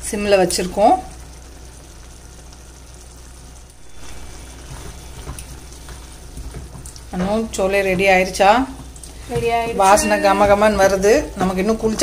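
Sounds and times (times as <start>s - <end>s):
gravy bubbling: 0.0s - 12.0s.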